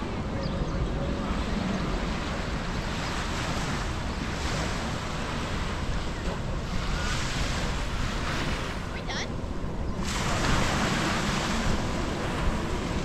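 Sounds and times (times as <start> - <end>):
ocean waves washing onto beach: 0.0 - 13.0
wind rumbling on microphone: 0.0 - 13.0.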